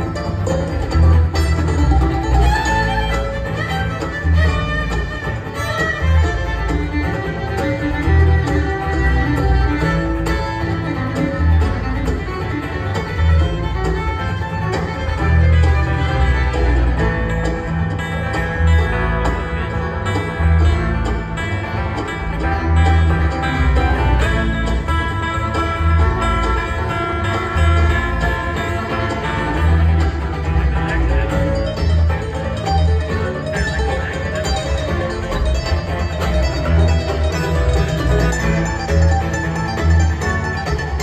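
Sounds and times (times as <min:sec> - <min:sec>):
acoustic guitar: 0:00.0 - 0:41.0
fiddle: 0:00.0 - 0:41.0
mandolin: 0:00.0 - 0:41.0
upright bass plucking: 0:00.0 - 0:41.0.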